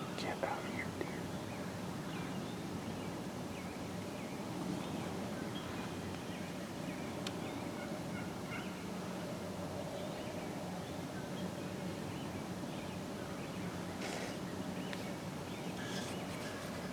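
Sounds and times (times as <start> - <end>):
outdoor background noise: 0.0 - 16.9.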